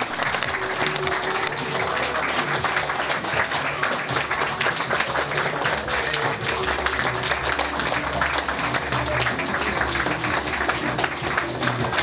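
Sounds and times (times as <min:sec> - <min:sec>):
audience applauding: 0:00.0 - 0:12.0
music playing: 0:00.0 - 0:12.0.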